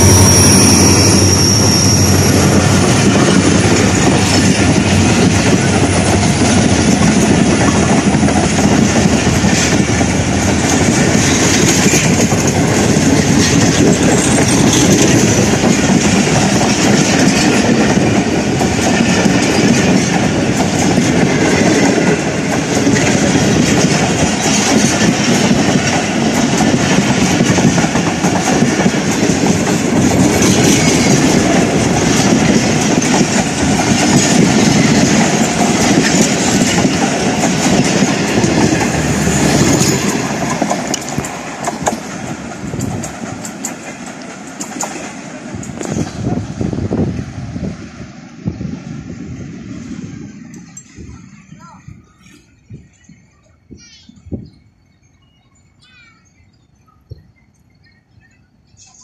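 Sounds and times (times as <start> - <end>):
train wheels rushing over rails: 0.0 - 53.3.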